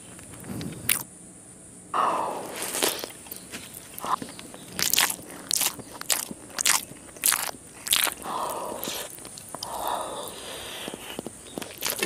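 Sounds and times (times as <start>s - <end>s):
crisp chewing crunches: 0.0s - 1.1s, 2.4s - 12.0s
wet chewing: 0.4s - 1.1s, 2.3s - 12.0s.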